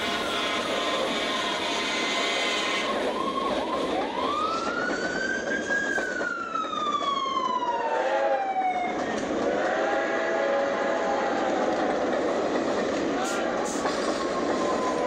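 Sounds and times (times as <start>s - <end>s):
fire engine siren: 0.0s - 11.9s, 13.2s - 15.0s.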